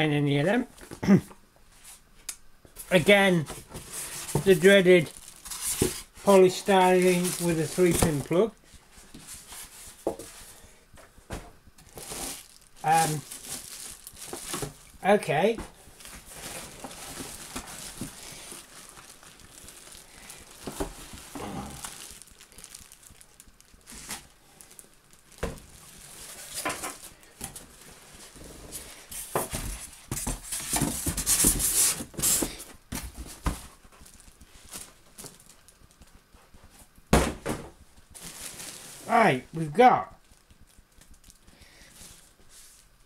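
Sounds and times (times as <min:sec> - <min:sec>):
plastic wrapping crinkling: 0:02.9 - 0:11.0, 0:11.7 - 0:37.0, 0:37.7 - 0:43.0.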